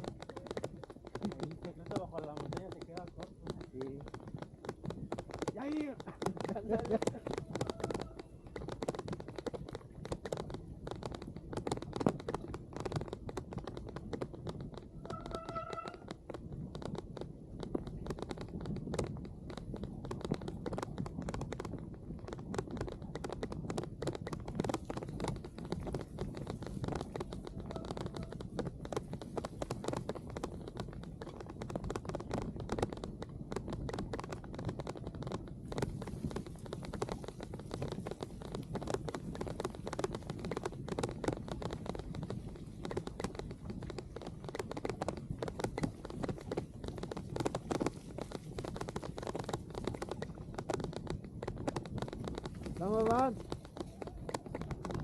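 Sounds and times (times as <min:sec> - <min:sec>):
bicycle riding in rain crackling: 0:00.0 - 0:55.0.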